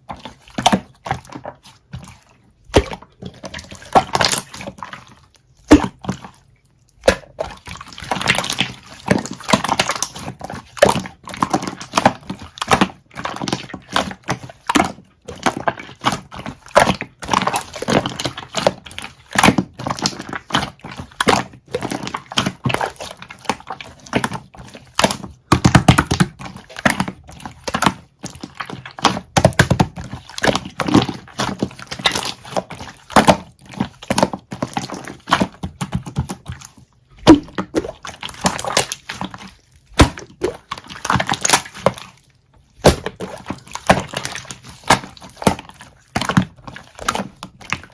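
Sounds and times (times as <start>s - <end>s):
slime squished by hand: 0.0s - 47.9s.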